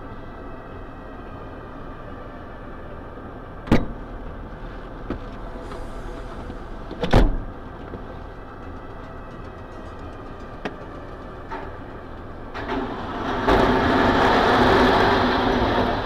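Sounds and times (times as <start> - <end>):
construction machinery running: 0.0 - 16.0.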